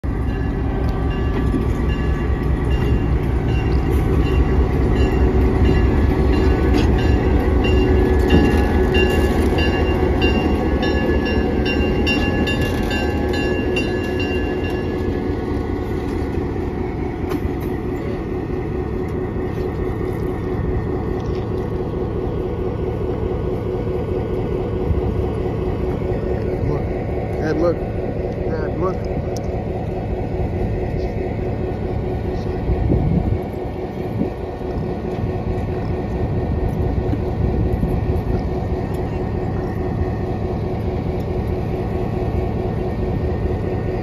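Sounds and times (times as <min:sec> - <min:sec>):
locomotive diesel engine running: 0:00.0 - 0:44.0
wheels clicking over rail joints: 0:00.3 - 0:44.0.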